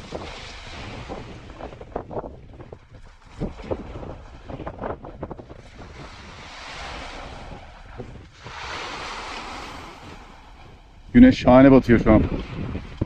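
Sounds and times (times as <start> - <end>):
sea waves washing onto beach: 0.0 - 13.0
wind buffeting microphone: 0.0 - 13.0.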